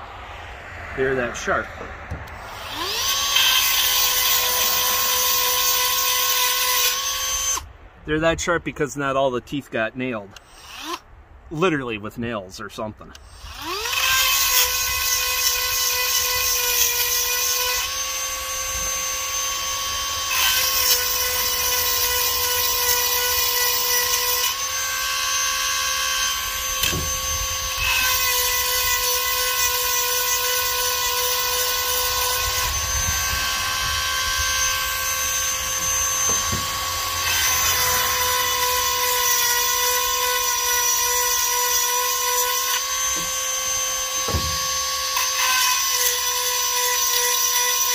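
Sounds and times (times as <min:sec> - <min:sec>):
rotary tool grinding whine: 0:02.3 - 0:07.7, 0:10.4 - 0:11.0, 0:13.1 - 0:47.9.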